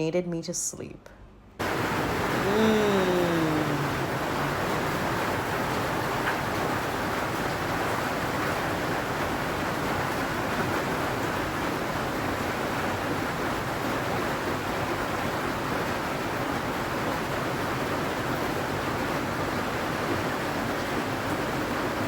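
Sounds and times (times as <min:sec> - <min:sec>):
rain on a metal roof: 0:01.6 - 0:22.0.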